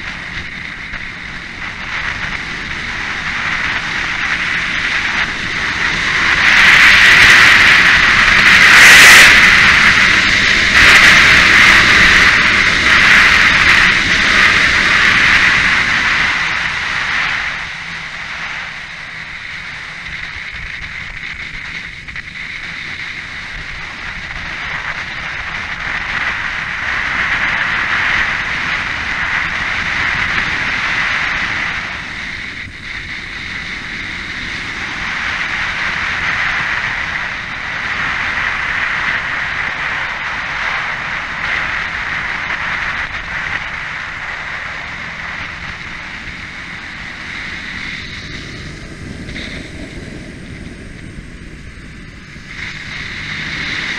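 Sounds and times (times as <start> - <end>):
motorcycle engine running: 0.0 - 53.9
wind rush over microphone: 0.0 - 53.9.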